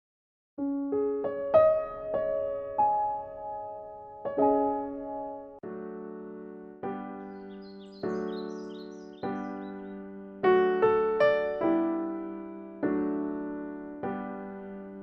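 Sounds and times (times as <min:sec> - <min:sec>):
soft piano music: 0:00.6 - 0:15.0.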